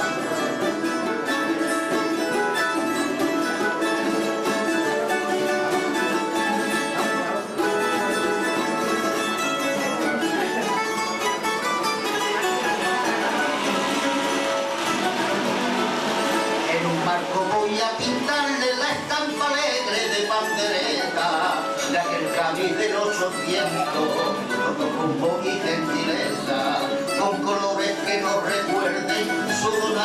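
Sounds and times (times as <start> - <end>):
plucked-string trio playing: 0.0 - 30.0.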